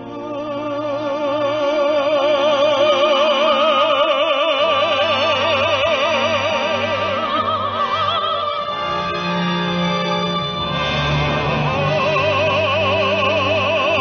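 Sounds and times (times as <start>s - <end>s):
operatic baritone singing: 0.0s - 14.0s.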